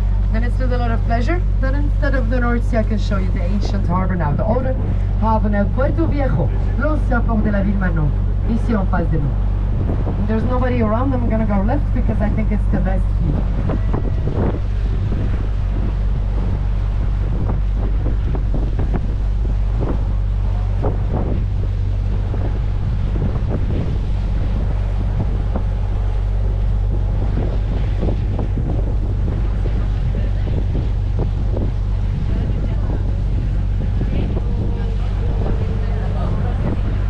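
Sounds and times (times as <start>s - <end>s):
boat motor humming: 0.0s - 37.0s
wind buffeting microphone: 0.0s - 37.0s.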